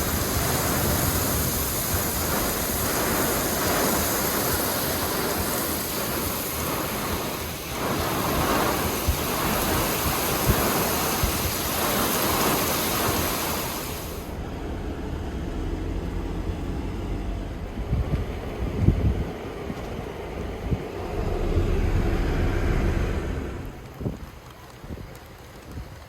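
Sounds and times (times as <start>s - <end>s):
rain: 0.0s - 26.0s
storm wind: 0.0s - 26.0s.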